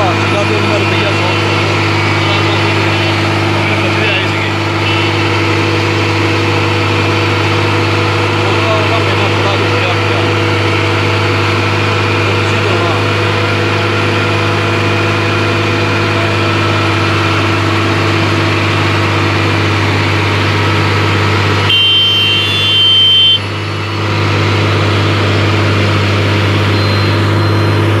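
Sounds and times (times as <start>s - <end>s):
high whine: 0.0s - 28.0s
paver engine humming: 0.0s - 28.0s.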